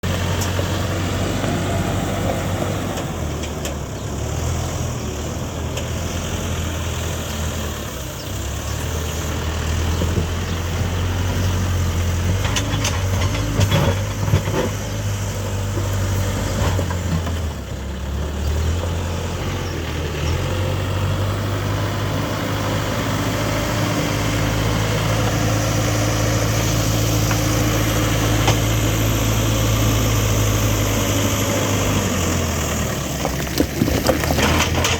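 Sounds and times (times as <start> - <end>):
backhoe diesel engine working: 0.0 - 34.9.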